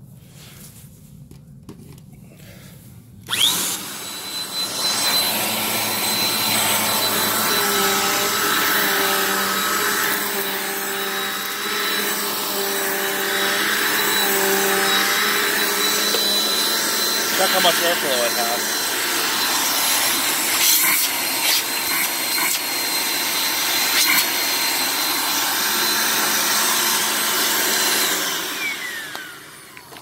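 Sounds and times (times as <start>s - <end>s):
vacuum cleaner motor whine: 3.2s - 30.0s.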